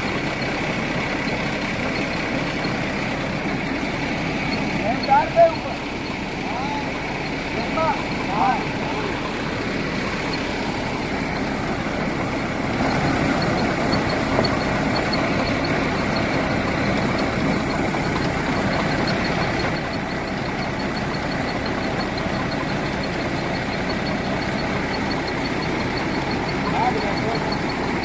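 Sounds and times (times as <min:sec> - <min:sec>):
fast regular ticking: 0:00.0 - 0:28.0
milling machinery din: 0:01.8 - 0:28.0.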